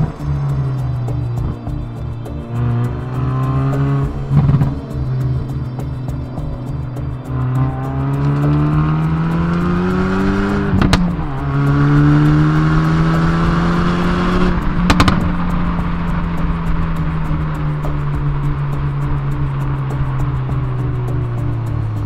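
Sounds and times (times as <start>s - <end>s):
car engine accelerating hard: 0.0s - 22.0s
exhaust pops crackling: 0.0s - 22.0s.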